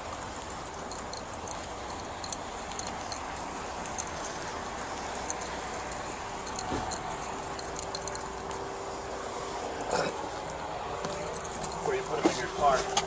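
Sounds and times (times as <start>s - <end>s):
street background noise: 0.0s - 13.0s
metallic clinking of belt gear: 0.2s - 8.7s, 10.5s - 13.0s.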